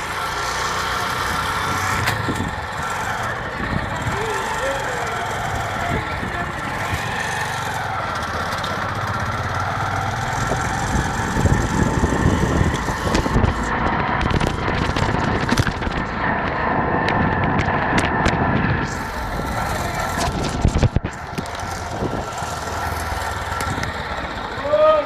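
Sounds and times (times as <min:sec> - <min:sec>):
motorcycle engine rumbling: 0:00.0 - 0:25.0
road and wind noise: 0:00.0 - 0:25.0.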